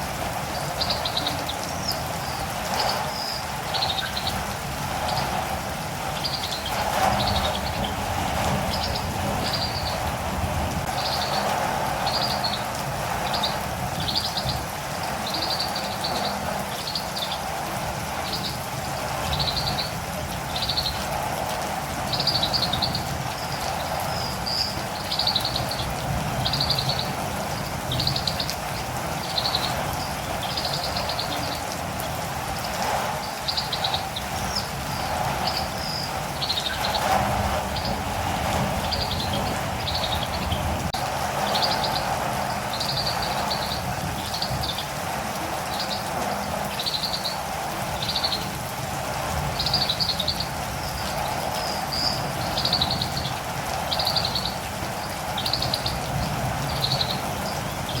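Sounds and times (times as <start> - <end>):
birds chirping: 0.0 - 58.0
rain falling: 0.0 - 58.0.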